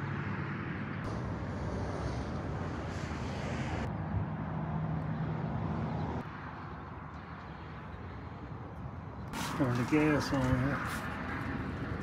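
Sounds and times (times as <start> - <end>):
passing vehicle hum: 0.0 - 12.0
road traffic rumble: 0.0 - 12.0.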